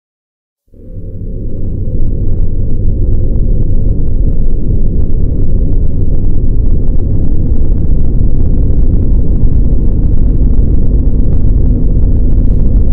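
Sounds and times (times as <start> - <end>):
deep rumbling: 0.7 - 12.9.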